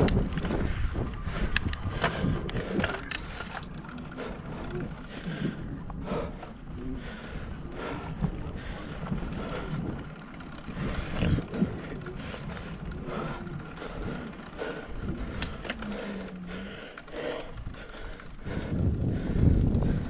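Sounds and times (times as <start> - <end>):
bicycle rattling and knocking: 0.0 - 20.0
bicycle tyres on rough asphalt: 0.0 - 20.0.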